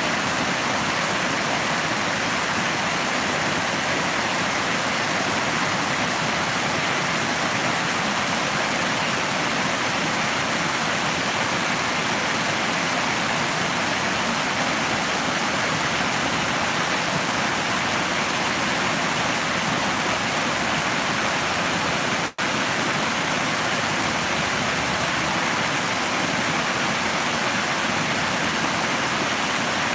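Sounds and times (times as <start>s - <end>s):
rushing water: 0.0s - 29.9s.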